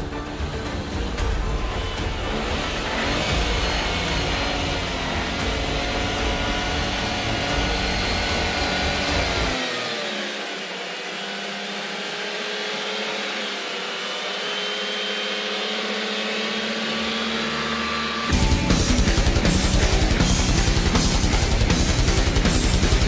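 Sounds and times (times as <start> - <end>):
car engine whining at high revs: 0.0 - 23.0.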